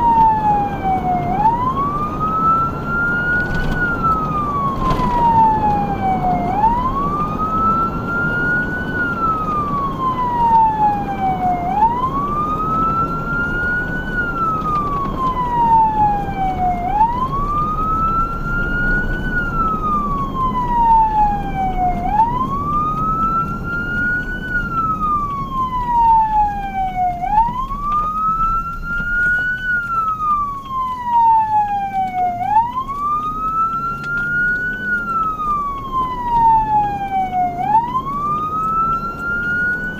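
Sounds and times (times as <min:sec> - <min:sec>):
emergency siren wailing: 0:00.0 - 0:39.9
engine and road rumble: 0:00.0 - 0:39.9.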